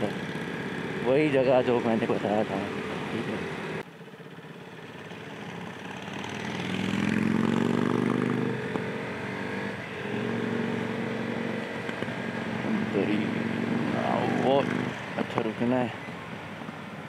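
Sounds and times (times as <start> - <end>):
motorcycle engine accelerating: 0.0 - 15.9.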